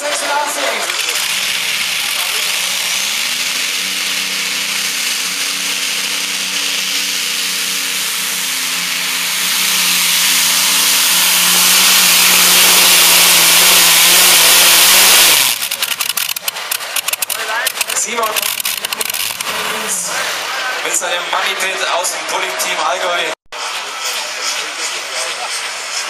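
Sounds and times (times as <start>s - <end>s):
tractor engine roaring under load: 0.0s - 21.5s, 23.6s - 26.0s.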